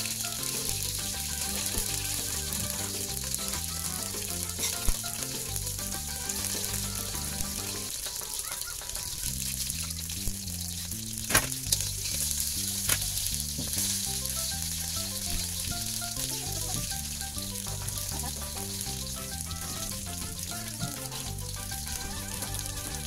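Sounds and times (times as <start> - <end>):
background music with bass line: 0.0 - 8.1, 9.3 - 23.0
oil sizzling in a wok: 0.0 - 23.0.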